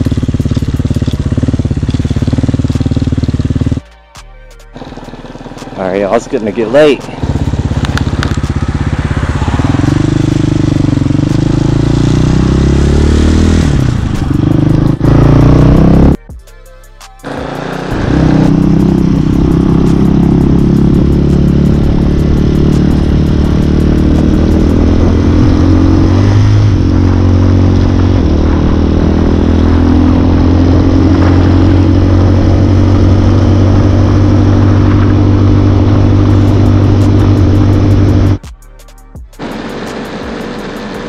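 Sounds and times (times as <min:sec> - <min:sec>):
motorcycle engine running: 0:00.0 - 0:03.9, 0:04.6 - 0:16.4, 0:17.2 - 0:41.0.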